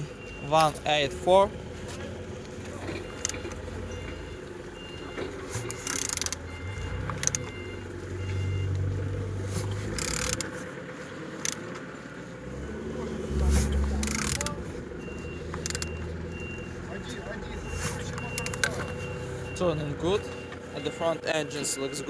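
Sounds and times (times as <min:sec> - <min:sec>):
engine clicks: 0:00.1 - 0:22.0.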